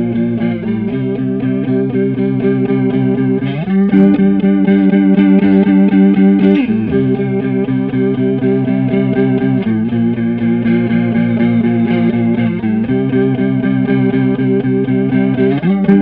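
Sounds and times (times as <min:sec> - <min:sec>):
electric guitar chords with chorus: 0:00.0 - 0:16.0.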